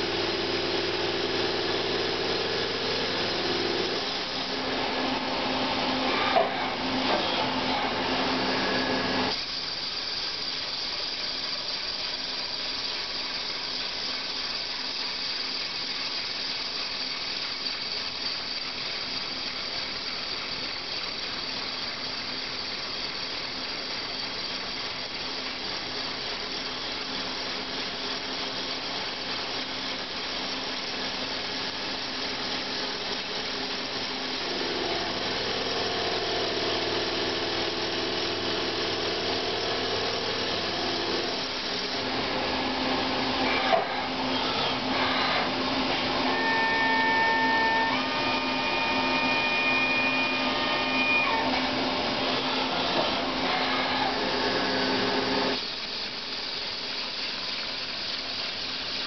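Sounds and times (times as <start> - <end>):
milling machine hum: 0.0 - 59.0.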